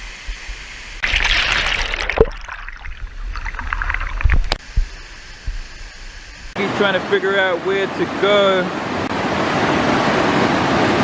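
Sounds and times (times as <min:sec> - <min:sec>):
water rushing and gurgling: 0:00.0 - 0:11.0.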